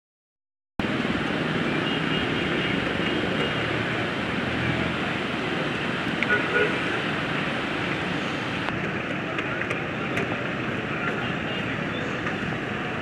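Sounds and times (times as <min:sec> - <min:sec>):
traffic engines idling: 0:00.8 - 0:13.0.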